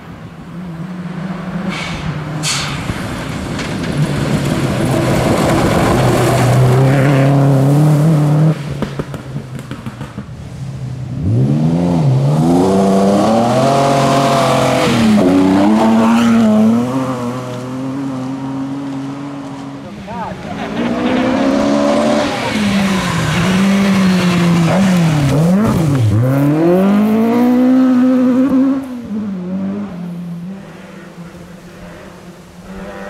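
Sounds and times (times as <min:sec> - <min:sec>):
rally car engine at full throttle: 0:00.0 - 0:33.0
rally car accelerating through gears: 0:03.7 - 0:09.7, 0:11.1 - 0:19.8, 0:20.4 - 0:33.0.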